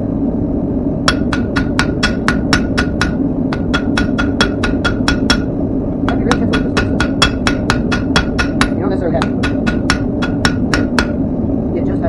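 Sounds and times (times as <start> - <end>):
low rumble: 0.0 - 12.0
hammer ringing on anvil: 1.1 - 11.2.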